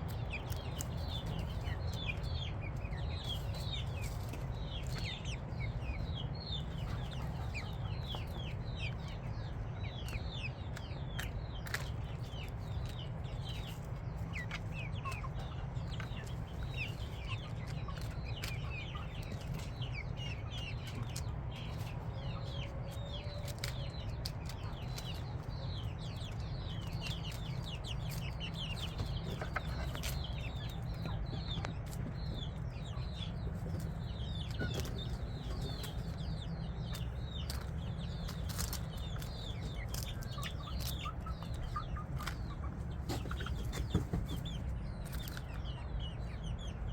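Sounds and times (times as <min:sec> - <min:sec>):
chicks peeping: 0:00.0 - 0:46.9
steady low rumble: 0:00.0 - 0:46.9.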